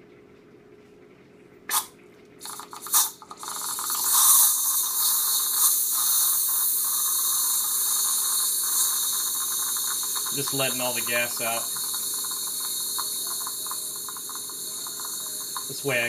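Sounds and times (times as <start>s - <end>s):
gas hissing from dispenser nozzle: 1.7s - 16.0s.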